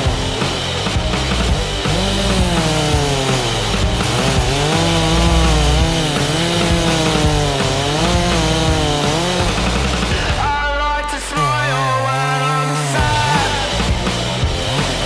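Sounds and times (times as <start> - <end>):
background rock music: 0.0 - 15.0
chainsaw cutting wood: 0.0 - 15.0.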